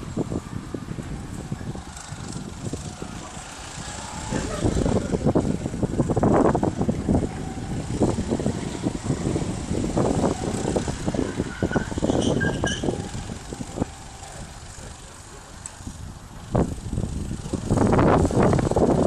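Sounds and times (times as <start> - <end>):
go-kart engines running: 0.0 - 19.0.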